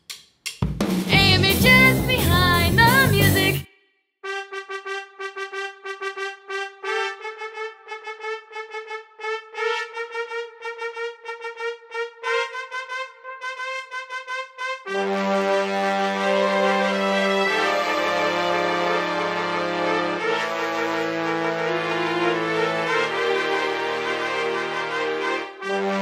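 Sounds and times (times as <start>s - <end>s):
trumpet staccato notes: 4.2s - 26.0s.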